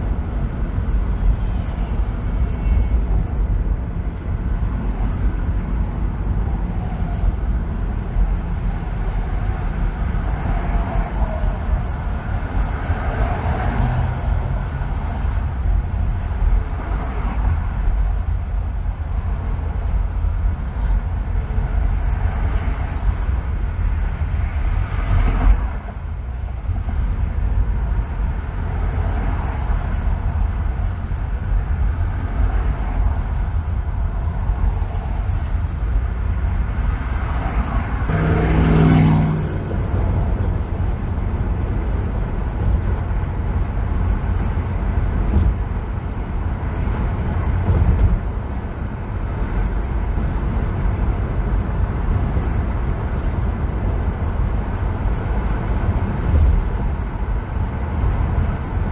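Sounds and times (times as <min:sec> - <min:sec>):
road and tyre rumble: 0:00.0 - 0:58.9.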